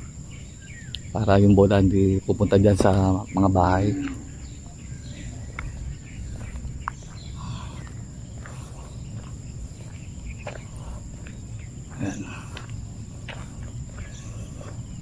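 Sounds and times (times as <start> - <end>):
high-pitched insect drone: 0.0 - 15.0
wind rumble on microphone: 0.0 - 15.0.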